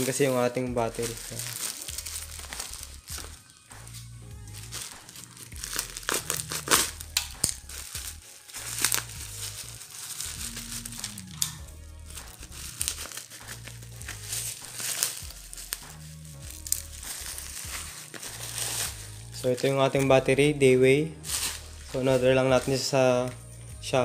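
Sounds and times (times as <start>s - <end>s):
plastic wrapping crinkling: 0.0s - 20.1s, 21.2s - 23.4s
background music with bass: 0.0s - 24.0s.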